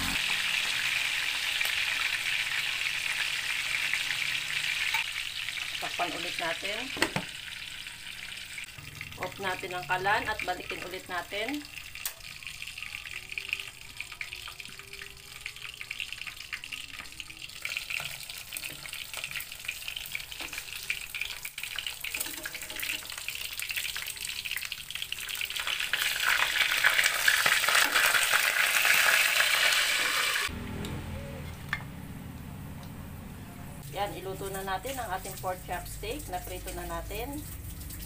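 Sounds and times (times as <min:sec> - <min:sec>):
meat sizzling in oil: 0:00.0 - 0:30.5.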